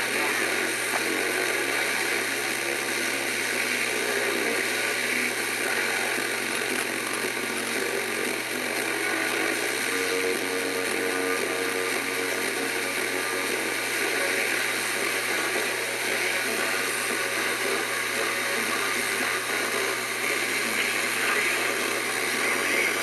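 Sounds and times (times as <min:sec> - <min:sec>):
steady hissing noise: 0:00.0 - 0:23.0.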